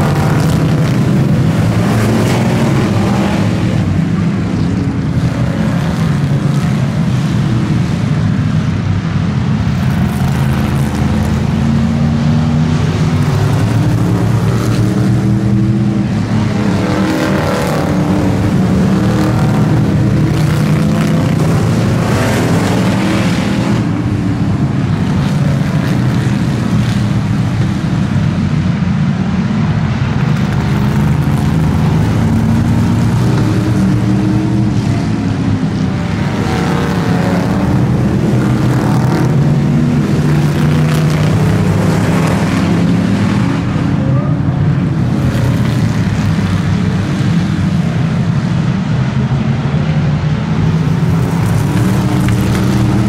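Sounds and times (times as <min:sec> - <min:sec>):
cars passing close by: 0:00.0 - 0:53.0
race car engines: 0:00.0 - 0:53.0.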